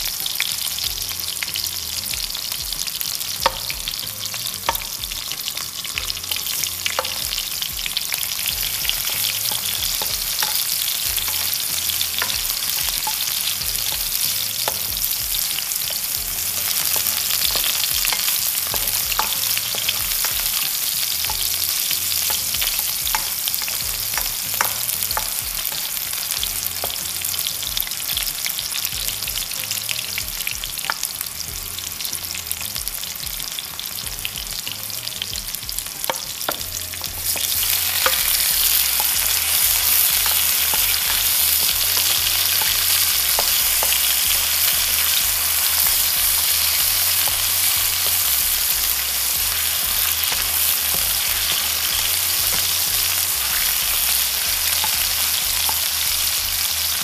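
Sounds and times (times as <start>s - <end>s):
food sizzling in hot oil: 0.0s - 57.0s
spoon stirring and clicking on pan: 2.4s - 28.8s, 35.9s - 57.0s.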